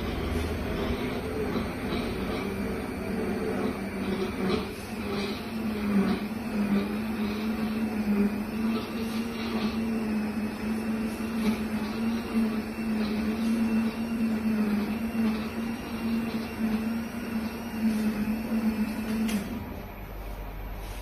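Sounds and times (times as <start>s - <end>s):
blender motor humming: 0.0s - 19.7s.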